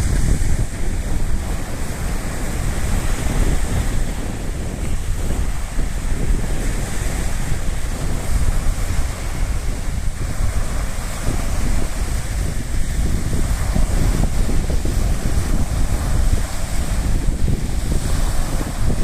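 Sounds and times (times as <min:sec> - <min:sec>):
sea waves on shore: 0:00.0 - 0:19.0
wind buffeting microphone: 0:00.0 - 0:19.0.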